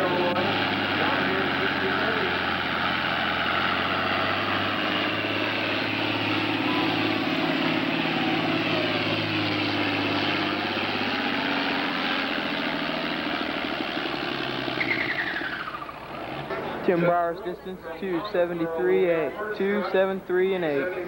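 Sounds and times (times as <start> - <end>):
diesel tractor engine under load: 0.0 - 21.0.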